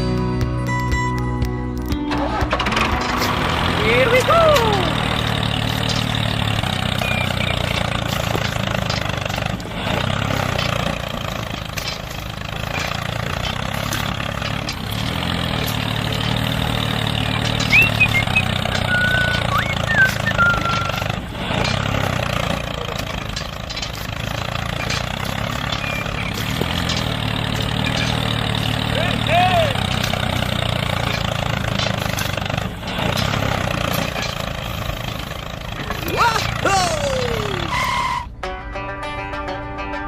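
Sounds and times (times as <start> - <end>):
small tractor engine running: 0.0 - 38.7.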